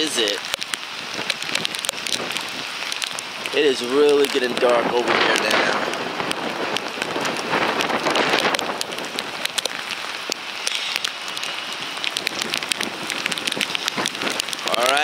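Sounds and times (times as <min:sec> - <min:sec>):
heavy rain falling: 0:00.0 - 0:15.0
raindrops tapping near microphone: 0:00.0 - 0:15.0.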